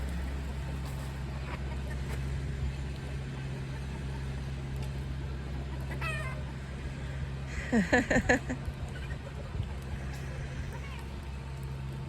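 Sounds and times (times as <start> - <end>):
steady low motor hum: 0.0 - 12.0.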